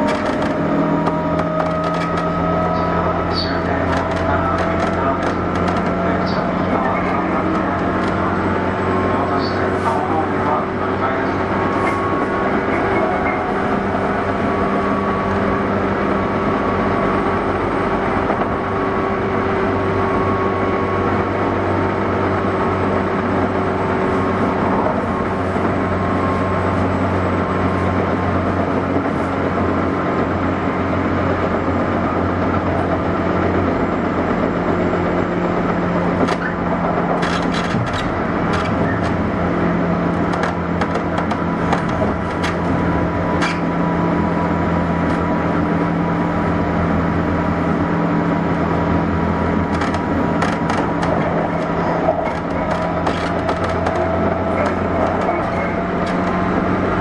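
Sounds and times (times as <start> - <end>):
train motors and wheels humming: 0.0 - 57.0.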